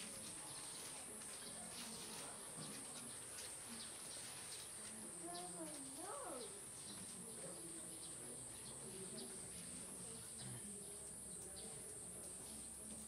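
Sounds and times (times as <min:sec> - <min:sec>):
faint murmur of voices: 0:00.0 - 0:13.0.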